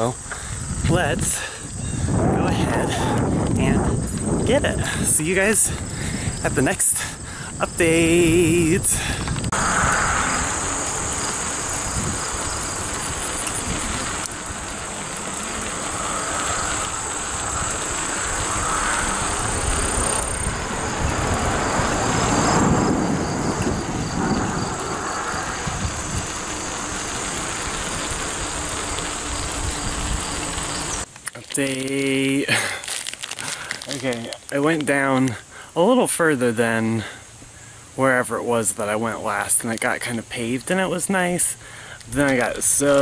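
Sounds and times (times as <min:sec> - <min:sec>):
bicycle riding noise: 0:00.0 - 0:43.0
high-pitched insect chorus: 0:00.0 - 0:43.0.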